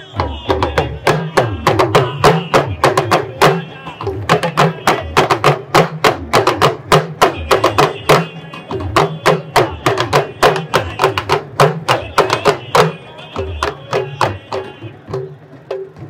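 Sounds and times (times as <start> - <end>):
talking drums played with sticks: 0.0 - 16.0.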